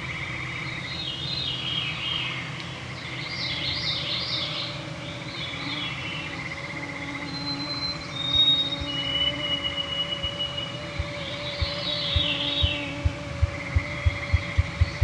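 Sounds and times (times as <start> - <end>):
faint whine of mosquitoes: 0.0 - 15.0
songbirds singing: 0.0 - 15.0.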